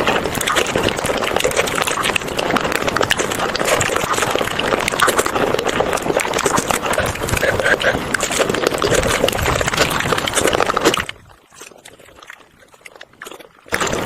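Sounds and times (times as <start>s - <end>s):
wet chewing and mouth smacking: 0.0s - 14.0s.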